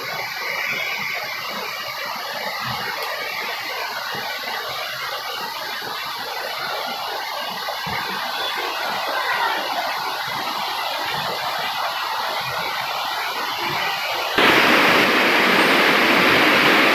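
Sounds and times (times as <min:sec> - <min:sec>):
stream rushing over rocks: 0:00.0 - 0:16.9.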